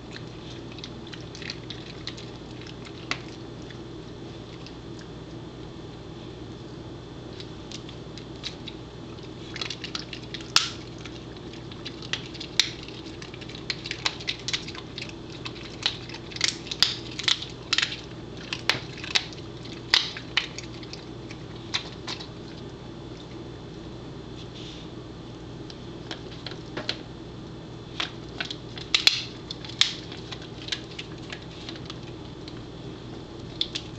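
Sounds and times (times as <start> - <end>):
dog chewing crunchy treat: 0.0 - 5.4, 7.3 - 23.4, 27.9 - 33.9.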